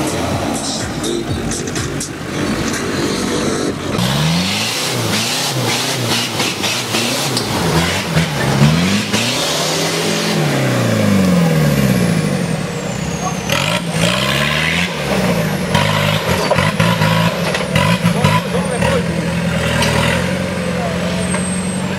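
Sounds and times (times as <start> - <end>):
off-road vehicle engine revving: 0.0 - 21.9.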